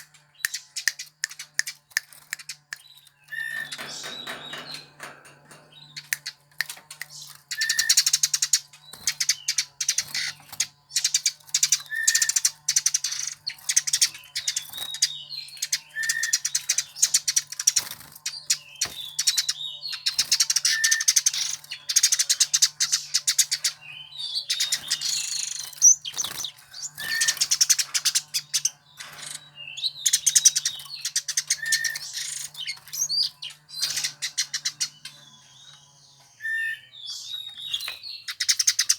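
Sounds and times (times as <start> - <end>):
sparrow chirping: 0.0 - 38.9.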